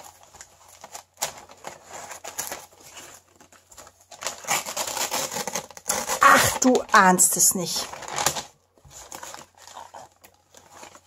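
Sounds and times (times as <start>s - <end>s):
paper rustling and tearing: 0.0s - 11.0s.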